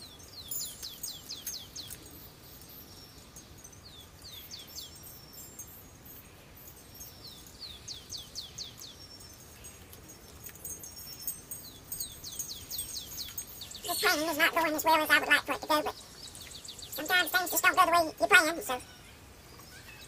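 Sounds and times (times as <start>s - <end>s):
faint background hiss: 0.0s - 20.0s
songbirds singing: 0.0s - 20.0s.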